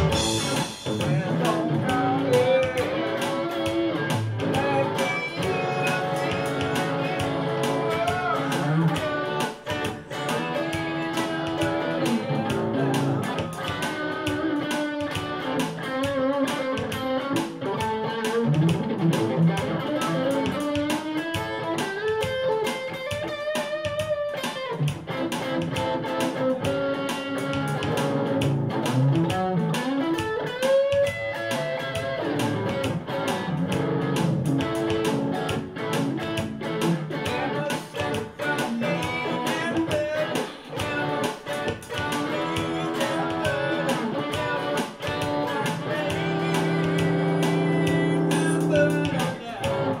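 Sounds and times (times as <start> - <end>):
electric guitar lead: 0.0 - 50.0
percussive beat: 0.0 - 50.0.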